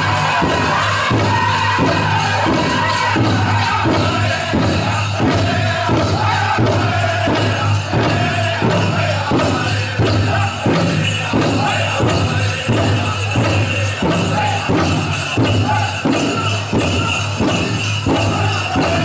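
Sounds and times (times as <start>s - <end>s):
big drum strokes: 0.0s - 19.0s
high-pitched group singing: 0.0s - 19.0s.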